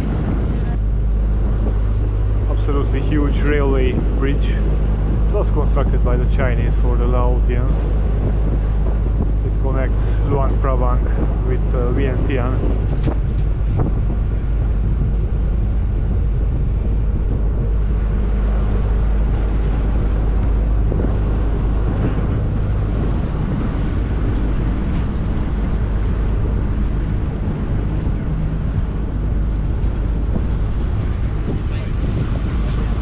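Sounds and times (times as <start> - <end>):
boat engine humming: 0.0 - 33.0
wind buffeting microphone: 0.0 - 33.0.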